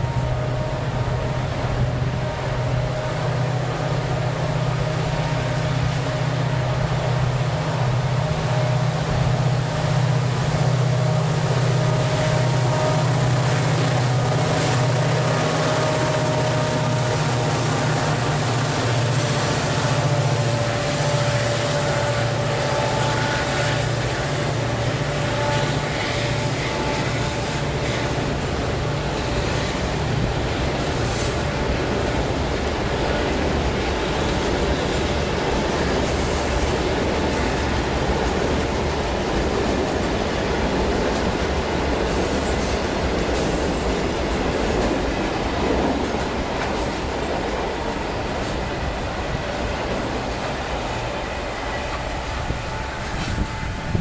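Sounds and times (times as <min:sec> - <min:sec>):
diesel locomotive engines humming: 0:00.0 - 0:54.0.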